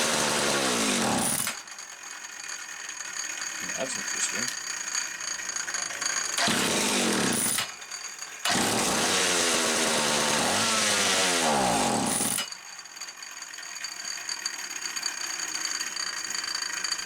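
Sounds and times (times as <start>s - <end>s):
chainsaw engine sputtering: 0.0s - 17.0s.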